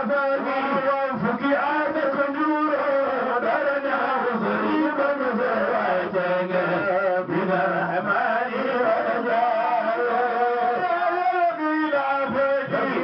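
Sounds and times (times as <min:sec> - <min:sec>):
men chanting into a microphone: 0:00.0 - 0:13.0.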